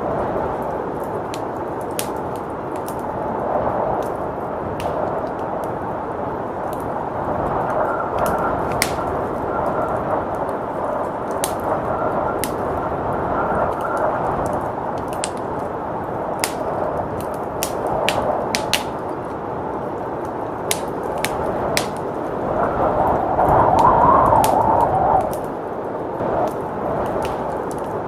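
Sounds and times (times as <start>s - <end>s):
fireplace crackling: 0.0s - 28.0s
rushing blizzard wind: 0.0s - 28.0s.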